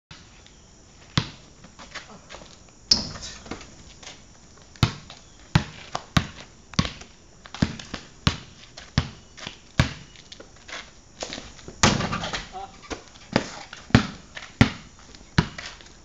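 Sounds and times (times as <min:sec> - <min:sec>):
basketball bouncing on pavement: 0:01.1 - 0:10.1, 0:11.2 - 0:15.9.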